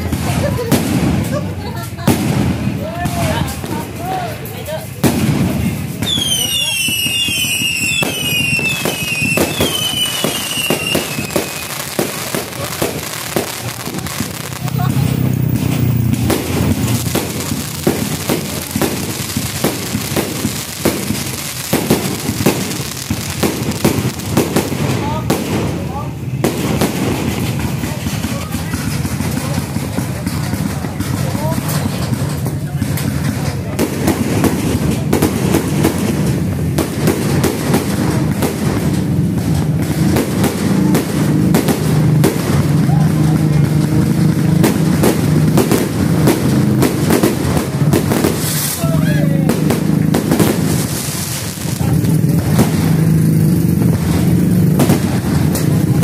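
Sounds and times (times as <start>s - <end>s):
crackling hiss: 0.0s - 31.1s, 32.0s - 56.0s
fireworks bangs and pops: 0.0s - 56.0s.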